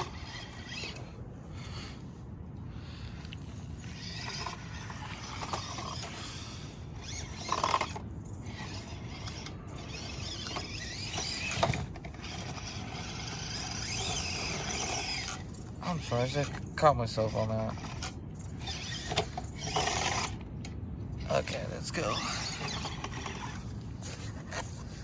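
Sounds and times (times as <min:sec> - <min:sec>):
rc crawler motor whirring: 0:00.0 - 0:25.0.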